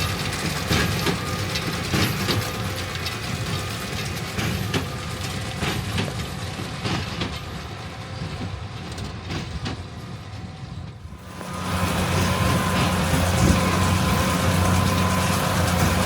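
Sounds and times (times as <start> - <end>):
tractor engine running: 0.0 - 10.3, 11.0 - 16.0.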